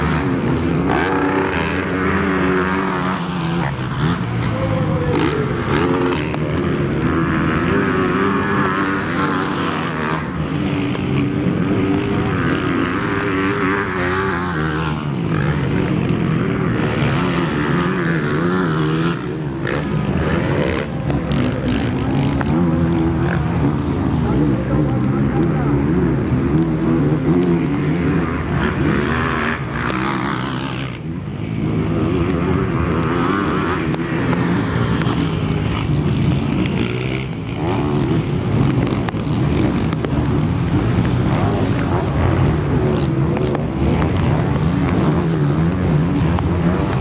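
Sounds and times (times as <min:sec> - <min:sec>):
bike engines running: 0:00.0 - 0:47.0
motocross bikes revving: 0:00.0 - 0:47.0.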